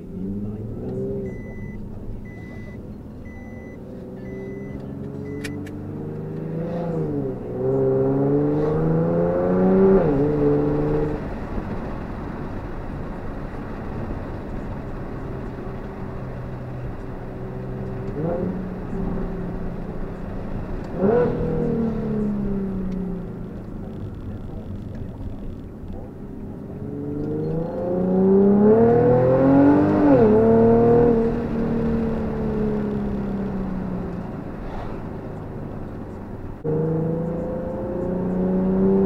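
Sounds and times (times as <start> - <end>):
car engine heard from inside cabin: 0.0 - 39.0.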